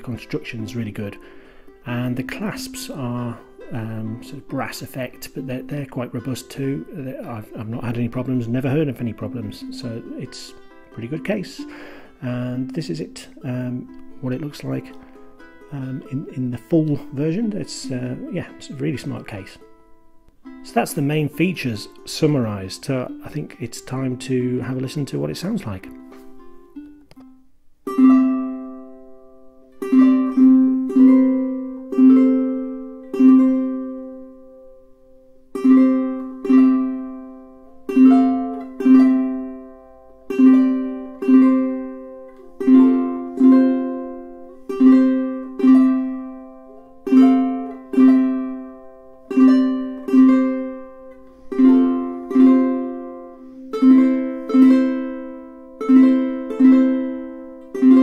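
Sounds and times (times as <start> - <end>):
ukulele chords ringing: 0.0 - 58.0.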